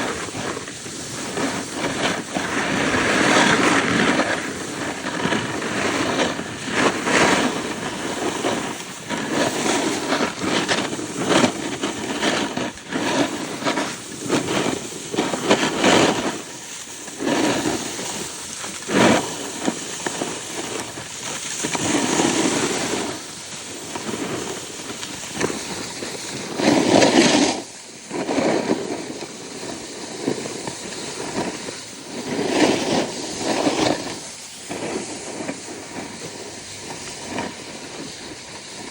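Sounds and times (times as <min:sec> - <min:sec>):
snowboard scraping over snow: 0:00.0 - 0:38.9.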